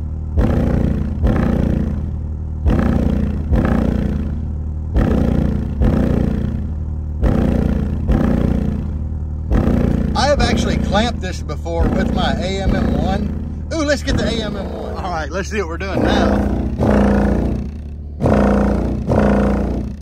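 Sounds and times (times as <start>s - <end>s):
deep bass music: 0.0s - 20.0s.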